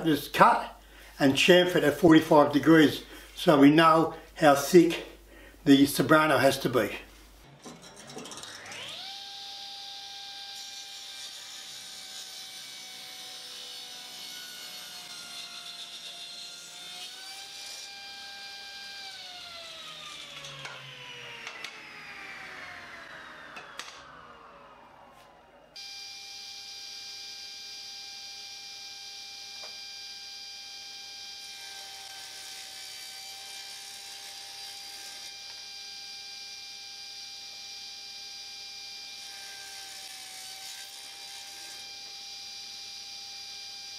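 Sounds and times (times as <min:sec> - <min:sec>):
table saw whining: 0:06.2 - 0:43.9.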